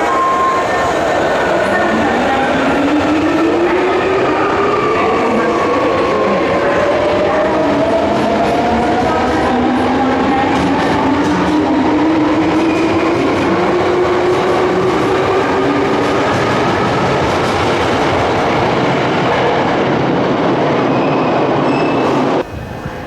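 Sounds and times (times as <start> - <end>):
train rolling rumble: 0.0 - 23.0.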